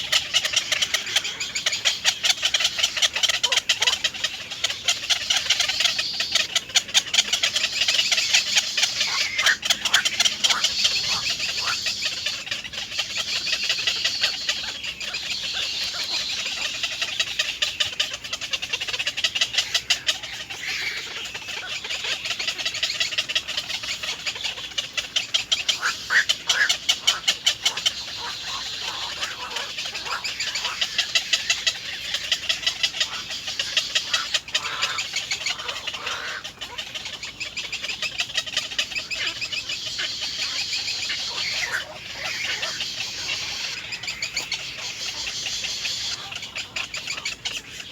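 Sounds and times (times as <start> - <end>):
baby birds chirping: 0.0 - 47.9.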